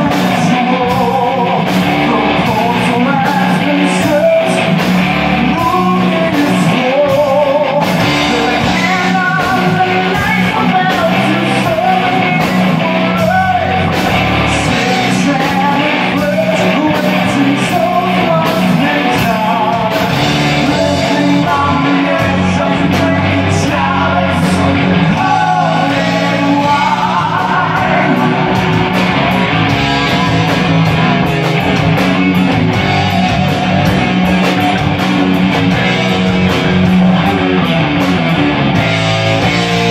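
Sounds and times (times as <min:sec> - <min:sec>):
person singing: 0:00.0 - 0:37.8
bass guitar: 0:00.0 - 0:39.9
drums: 0:00.0 - 0:39.9
electric guitars: 0:00.0 - 0:39.9.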